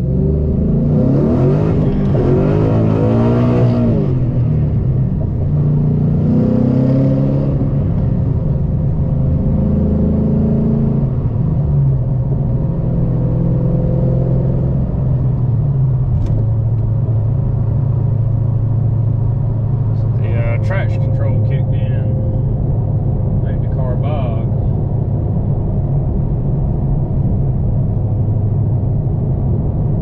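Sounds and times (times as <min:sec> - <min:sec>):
car engine exhaust note: 0:00.0 - 0:30.0.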